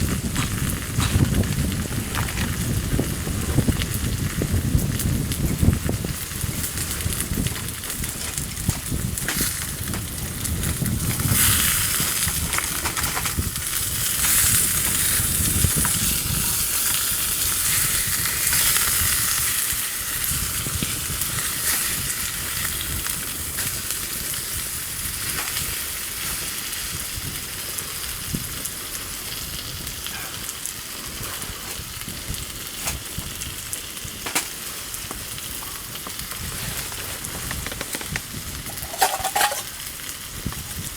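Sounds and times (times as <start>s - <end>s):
campfire sizzling and crackling: 0.0s - 40.9s.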